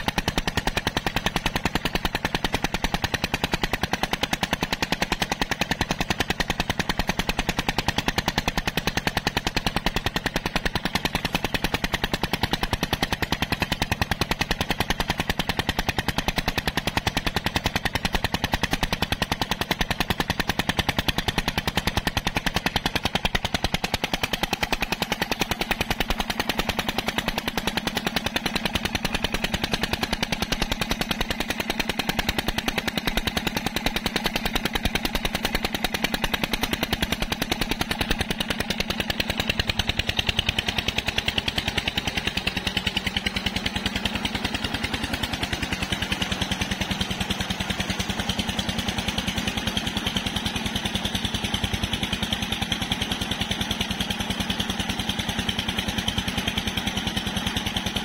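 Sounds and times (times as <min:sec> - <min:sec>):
diesel engine exhaust beats: 0:00.0 - 0:58.0.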